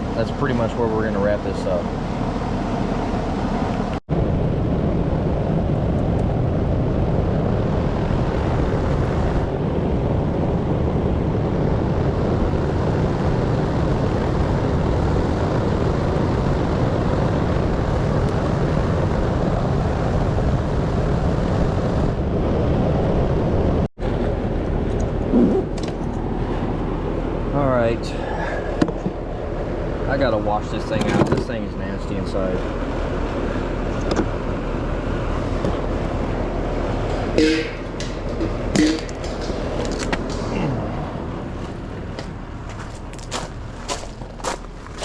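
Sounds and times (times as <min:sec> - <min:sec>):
air conditioner whirring: 0:00.0 - 0:45.0.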